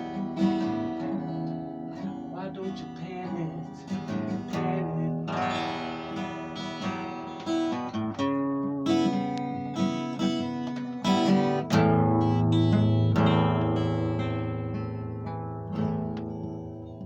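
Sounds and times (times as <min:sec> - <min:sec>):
acoustic guitar strummed and picked: 0:00.0 - 0:17.0.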